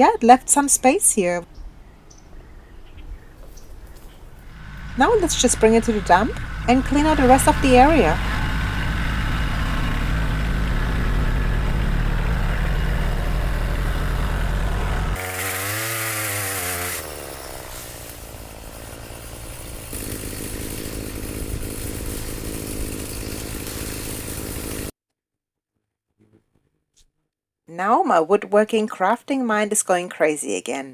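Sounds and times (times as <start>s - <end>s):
engine running: 0.0s - 24.9s.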